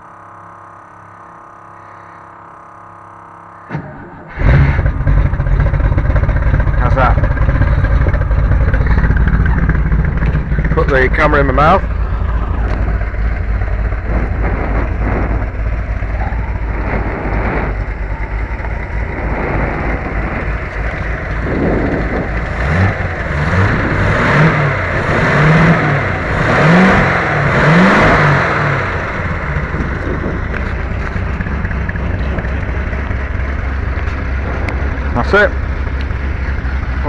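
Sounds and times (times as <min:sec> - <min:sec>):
car engine idling and revving: 0:03.0 - 0:37.0.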